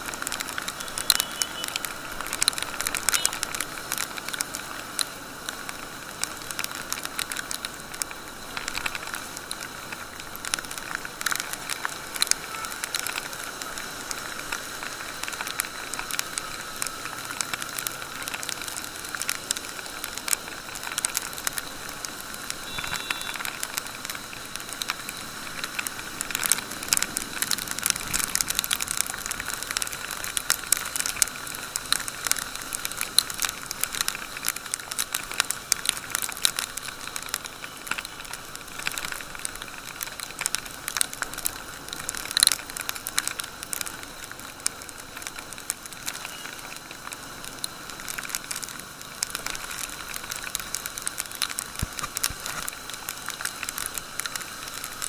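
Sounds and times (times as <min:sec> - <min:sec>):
raindrops hitting camera housing: 0:00.0 - 0:55.0.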